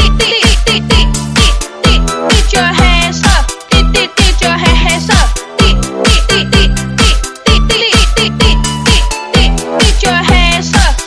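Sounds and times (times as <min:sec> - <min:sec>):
electronic dance music: 0:00.0 - 0:11.0
heavy kick drum: 0:00.0 - 0:11.0.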